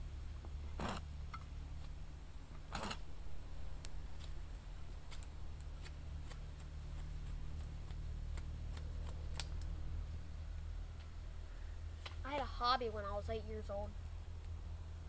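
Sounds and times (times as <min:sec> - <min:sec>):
fire low rumble: 0:00.0 - 0:15.0.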